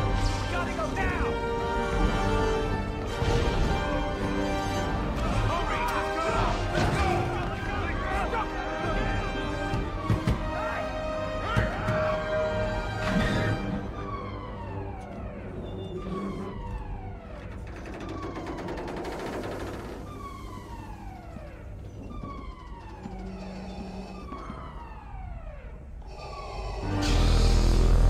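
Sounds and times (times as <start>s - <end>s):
alarm siren falling tone: 0.0s - 28.0s.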